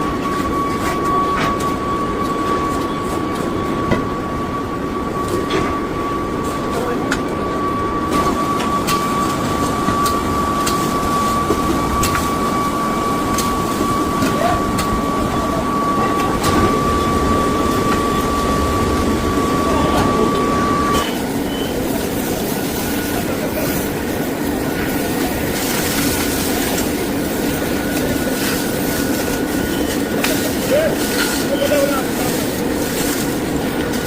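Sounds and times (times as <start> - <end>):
constant high whine: 0.0 - 34.0
factory machinery rumbling: 0.0 - 34.0.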